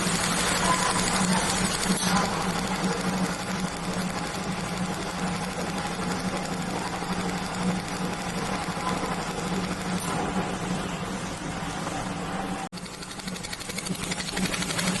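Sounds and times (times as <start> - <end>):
laser welder ticking buzz: 0.0 - 10.2, 12.8 - 15.0
machine hum: 0.0 - 15.0.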